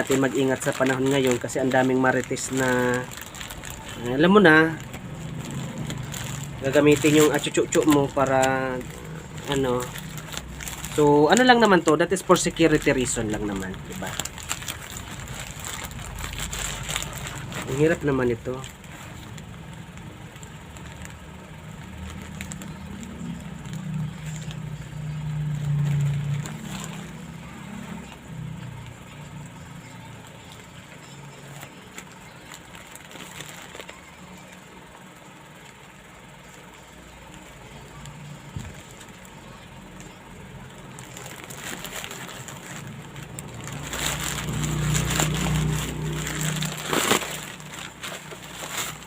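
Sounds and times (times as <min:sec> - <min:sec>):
low motor hum: 0:00.0 - 0:11.0, 0:12.2 - 0:49.0
plastic packaging crinkling and tearing: 0:00.0 - 0:49.0.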